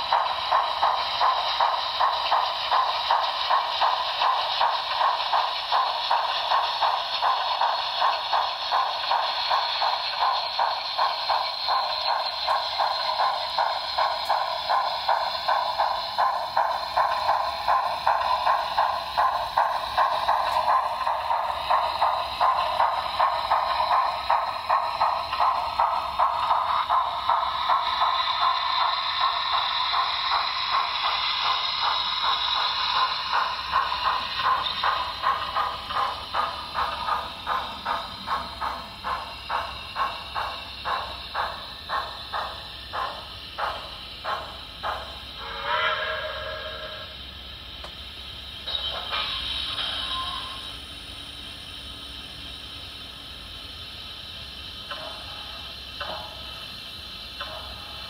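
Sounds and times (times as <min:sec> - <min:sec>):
model train exhaust chuffing: 0:00.0 - 0:58.0.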